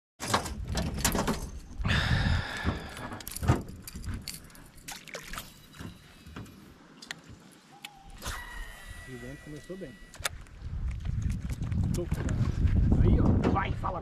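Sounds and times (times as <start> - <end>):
water splashing and sloshing: 0.2 - 12.6.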